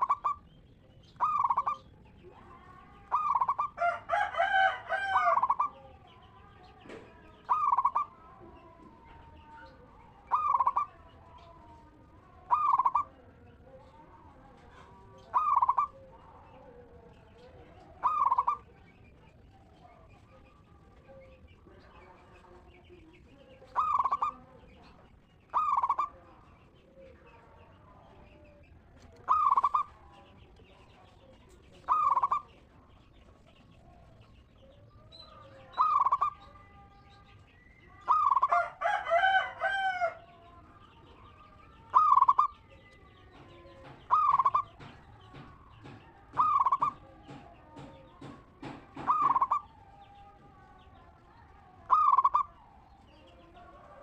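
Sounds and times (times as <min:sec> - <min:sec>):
dove cooing: 0:00.0 - 0:06.1, 0:07.2 - 0:20.1, 0:23.6 - 0:24.6, 0:25.5 - 0:27.2, 0:28.3 - 0:32.9, 0:33.8 - 0:36.9, 0:37.9 - 0:40.5, 0:41.4 - 0:54.0.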